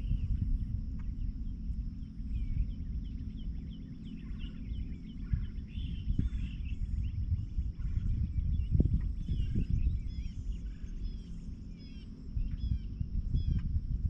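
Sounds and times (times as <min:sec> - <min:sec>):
birds chirping: 0:00.0 - 0:13.8
steady low rumble: 0:00.0 - 0:14.0.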